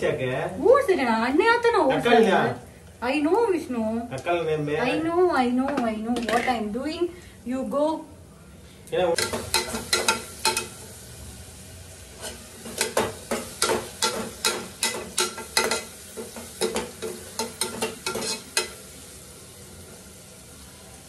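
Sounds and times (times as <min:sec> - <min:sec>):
onions sizzling in oil: 0:00.0 - 0:08.0, 0:08.9 - 0:21.0.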